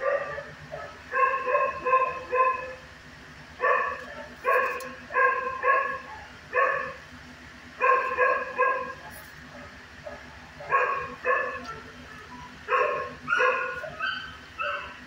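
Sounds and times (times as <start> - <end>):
dog barking: 0.0 - 2.8, 3.6 - 7.0, 7.8 - 11.9, 12.7 - 15.0.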